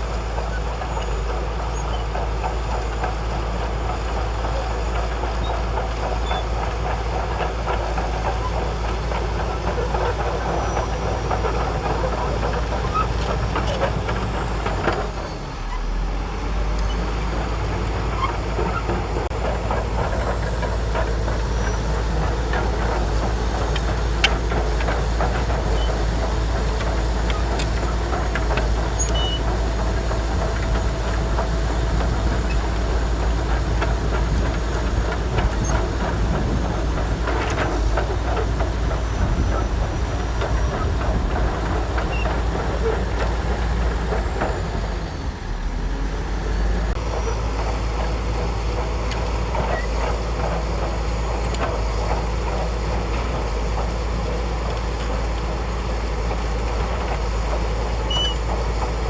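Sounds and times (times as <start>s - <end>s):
diesel engine rumble: 0.0s - 59.0s
steel tracks clattering: 0.0s - 59.0s.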